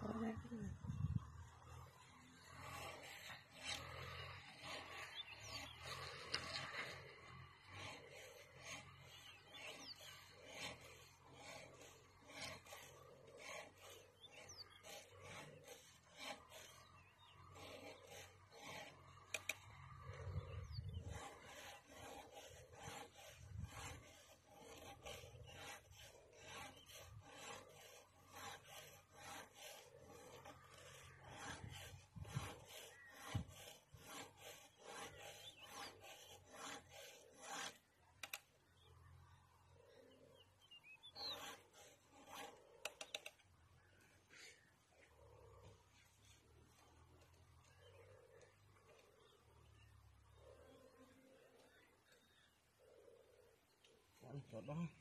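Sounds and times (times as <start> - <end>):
hand tool scraping strokes: 0.0 - 55.0.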